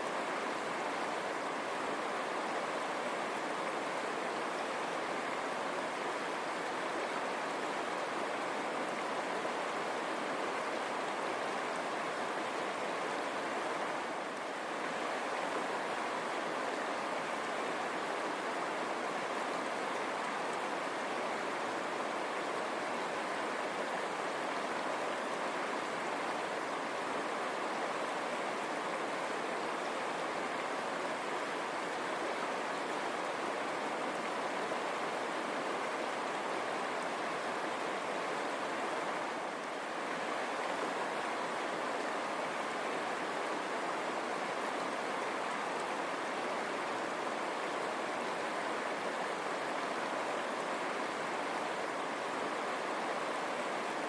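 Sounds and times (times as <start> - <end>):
river water over stones: 0.0 - 54.0.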